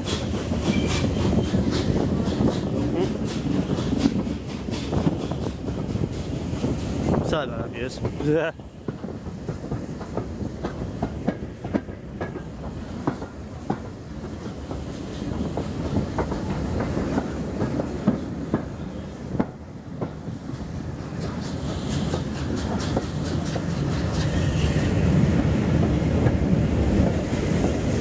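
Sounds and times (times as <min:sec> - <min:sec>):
train rumble: 0:00.0 - 0:28.0
train wheels clicking over rail joints: 0:00.0 - 0:28.0.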